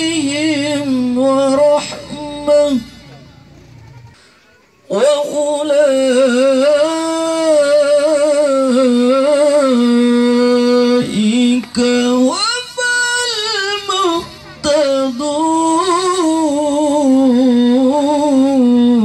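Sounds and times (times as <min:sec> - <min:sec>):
man chanting into a microphone: 0:00.0 - 0:03.3, 0:04.9 - 0:19.0.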